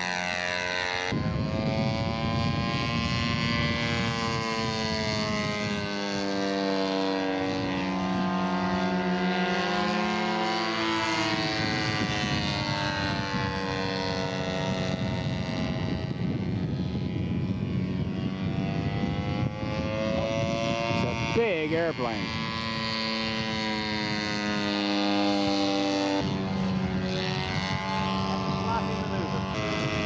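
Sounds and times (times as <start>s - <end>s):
model airplane engine drone: 0.0s - 30.0s.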